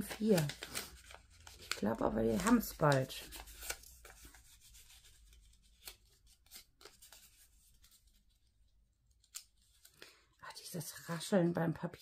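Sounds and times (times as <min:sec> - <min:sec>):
paper being folded: 0:00.0 - 0:10.0.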